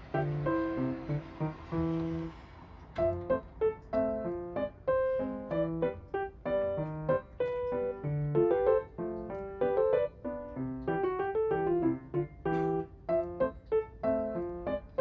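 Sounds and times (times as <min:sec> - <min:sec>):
bright piano melody: 0:00.0 - 0:15.0.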